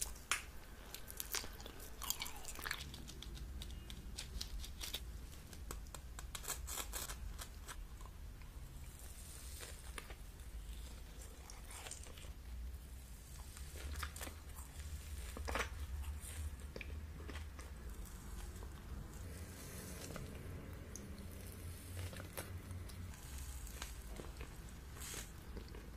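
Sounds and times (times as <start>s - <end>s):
soft candy tearing and crackling: 0.0s - 25.9s
steady low hum: 0.0s - 25.9s.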